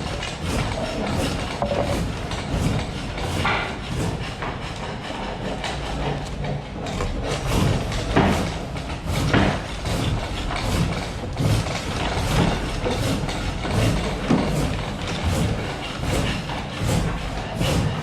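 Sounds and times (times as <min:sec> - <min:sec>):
rhythmic wooden thumps: 0:00.0 - 0:18.0.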